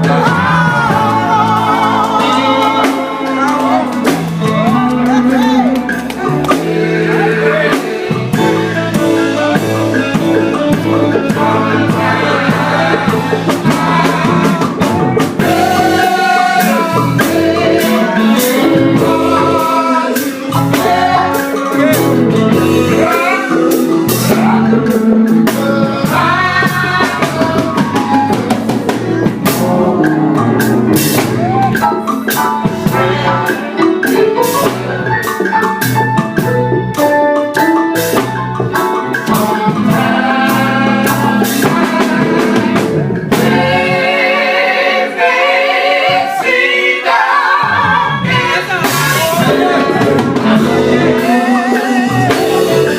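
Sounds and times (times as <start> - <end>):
drum kit steady beat: 0.0 - 52.9
gospel group singing with band: 0.0 - 52.9.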